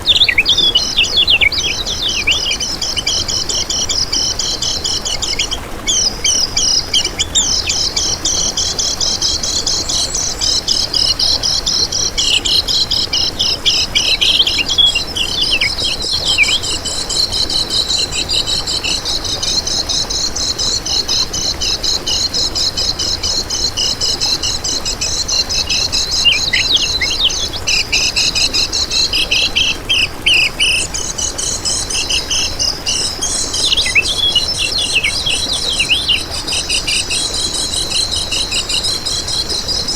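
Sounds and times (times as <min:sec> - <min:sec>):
birds chirping and trilling: 0:00.0 - 0:19.9, 0:22.7 - 0:39.9.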